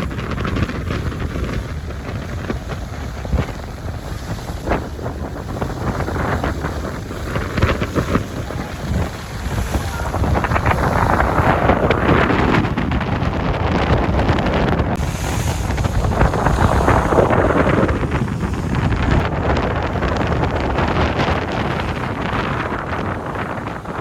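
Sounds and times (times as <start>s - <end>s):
boat low rumble: 0.0s - 24.0s
wind buffeting microphone: 0.0s - 24.0s.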